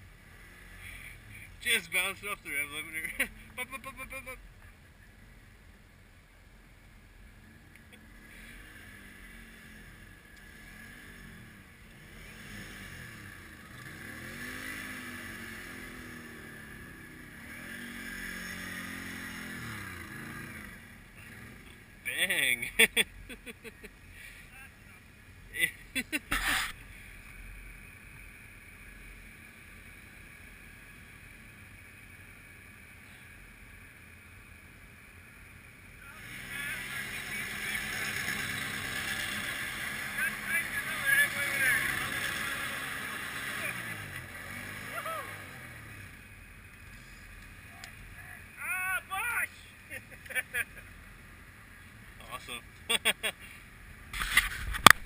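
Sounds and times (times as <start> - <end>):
atv engines revving: 0.0 - 55.0.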